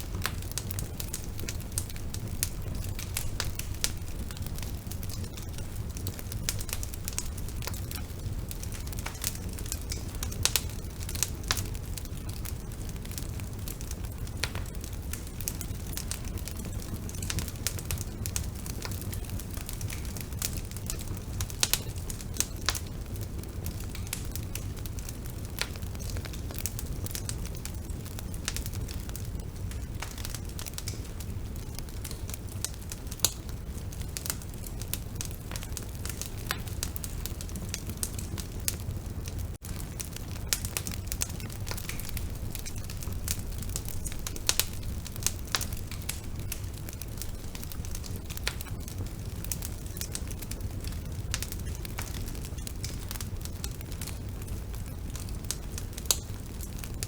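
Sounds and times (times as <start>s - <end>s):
bonfire crackling and popping: 0.0s - 57.0s.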